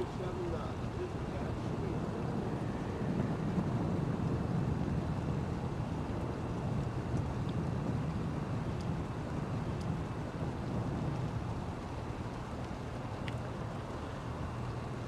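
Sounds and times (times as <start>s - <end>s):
boat engine low rumble: 0.0s - 15.0s
wind on microphone: 0.0s - 15.0s.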